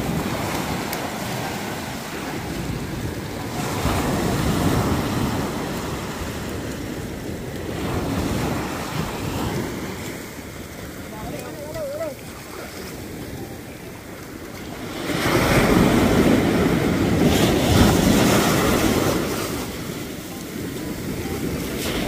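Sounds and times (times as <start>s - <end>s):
surf washing up beach: 0.0s - 22.0s
wind on microphone: 0.0s - 22.0s.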